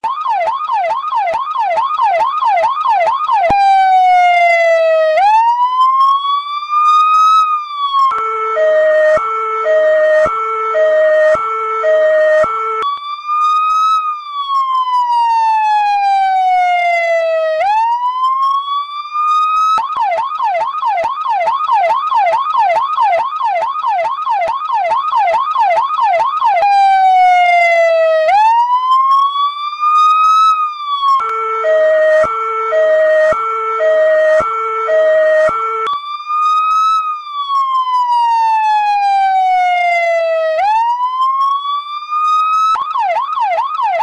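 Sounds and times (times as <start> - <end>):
fire engine siren: 0.0 - 44.0.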